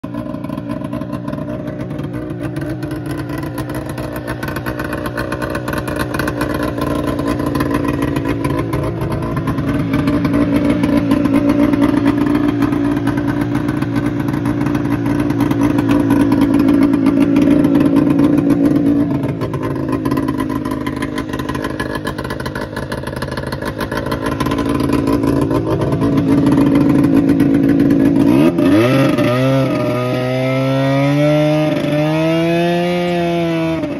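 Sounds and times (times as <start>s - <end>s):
snowmobile engine revving: 0.2s - 33.9s.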